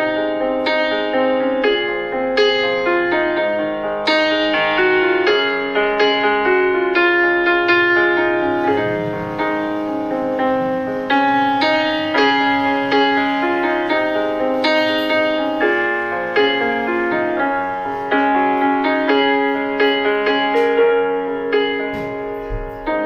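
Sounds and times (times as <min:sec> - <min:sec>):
keyboard playing piano-like melody: 0:00.0 - 0:23.0.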